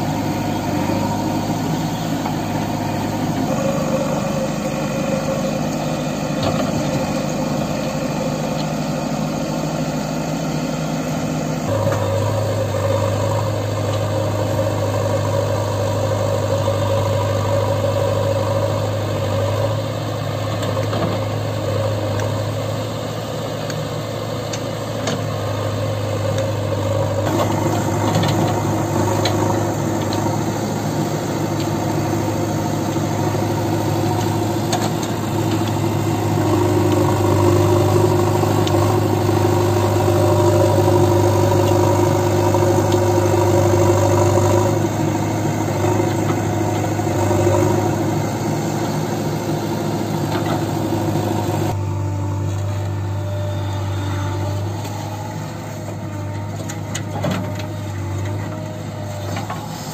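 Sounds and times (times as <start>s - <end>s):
backhoe digging soil: 0.0s - 59.9s
diesel engine running: 0.0s - 59.9s.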